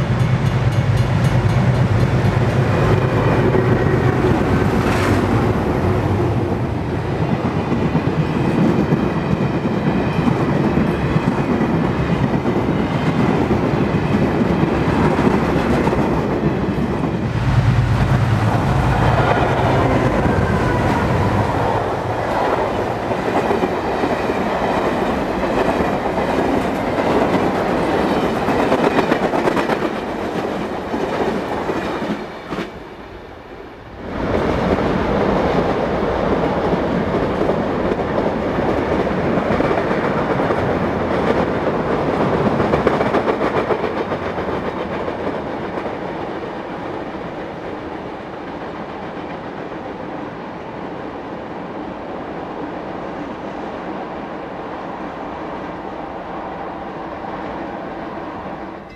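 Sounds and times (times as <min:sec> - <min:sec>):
diesel locomotive engines: 0:00.0 - 0:58.9.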